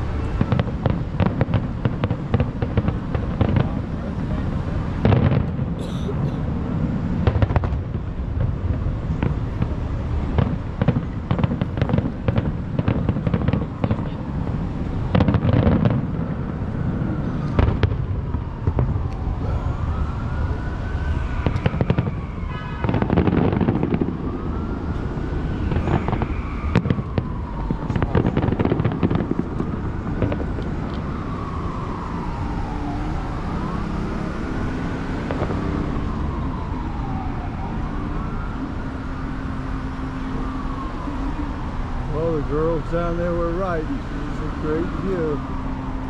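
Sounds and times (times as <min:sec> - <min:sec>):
siren wailing: 0:00.0 - 0:05.8, 0:06.5 - 0:46.0
distant fireworks booming and crackling: 0:00.0 - 0:46.0.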